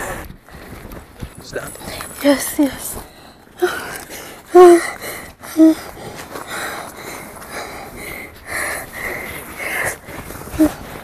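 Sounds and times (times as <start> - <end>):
person breathing hard: 0.0 - 0.8, 2.9 - 11.0.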